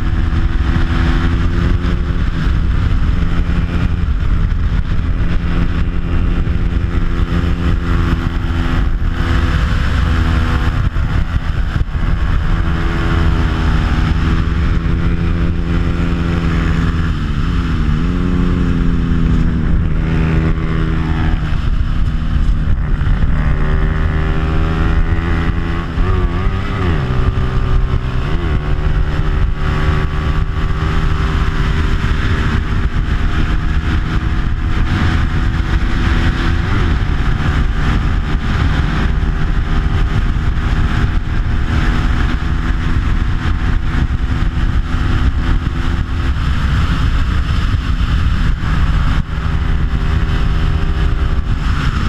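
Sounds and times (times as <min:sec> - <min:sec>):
motorcycle engine revving hard: 0:00.0 - 0:52.0
wind rushing: 0:00.0 - 0:52.0.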